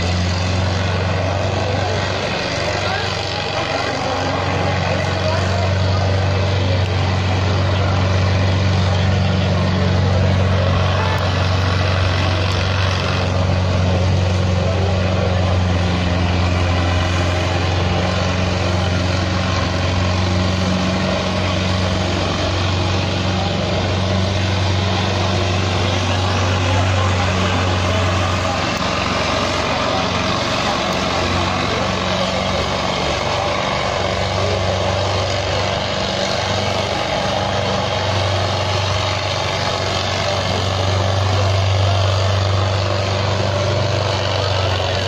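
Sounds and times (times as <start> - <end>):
tractor diesel engine droning: 0.0 - 45.0.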